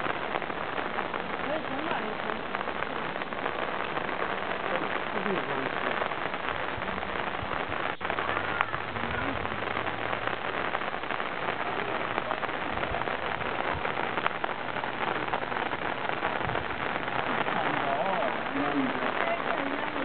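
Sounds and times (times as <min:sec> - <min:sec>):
rain on trees and tiled roofs: 0:00.0 - 0:20.0.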